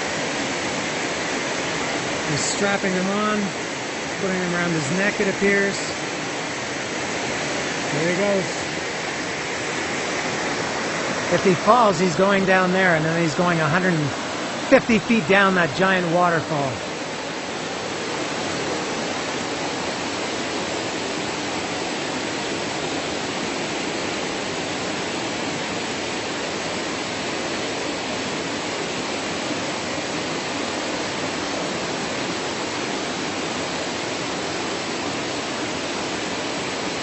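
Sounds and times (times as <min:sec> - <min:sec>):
stream water rushing: 0:00.0 - 0:37.0.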